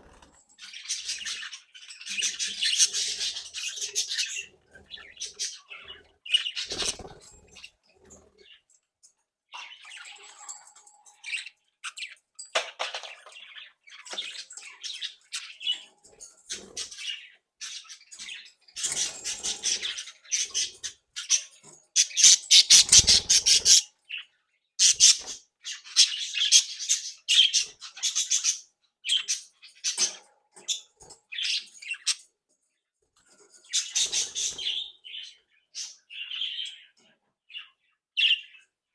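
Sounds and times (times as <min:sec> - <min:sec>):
budgerigars chattering and squawking: 0:00.0 - 0:08.7, 0:09.6 - 0:32.3, 0:33.6 - 0:38.6.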